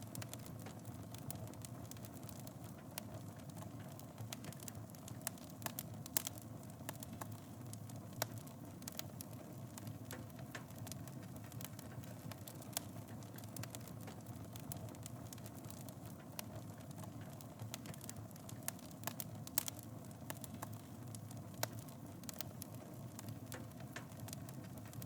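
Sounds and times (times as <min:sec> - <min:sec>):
fire crackling and popping: 0:00.0 - 0:25.0
flames rumbling: 0:00.1 - 0:25.0.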